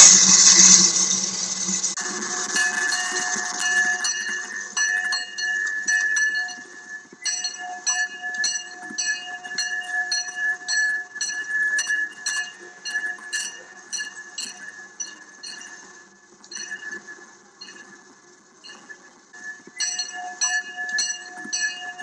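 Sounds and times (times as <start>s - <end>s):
locomotive bell ringing: 2.0s - 22.0s
faint steady tone: 2.3s - 22.0s.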